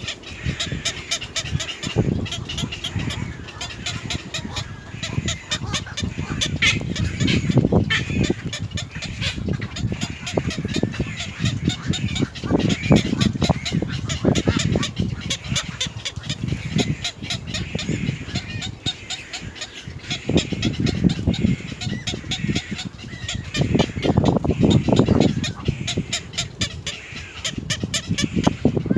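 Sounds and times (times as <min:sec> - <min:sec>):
birds calling at a nest: 0:00.0 - 0:28.9.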